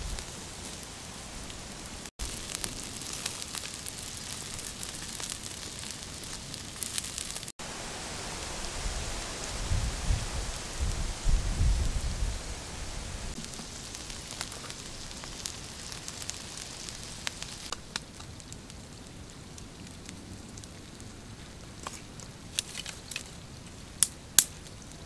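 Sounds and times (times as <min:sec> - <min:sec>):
meat sizzling on hot stone: 0:00.0 - 0:21.0.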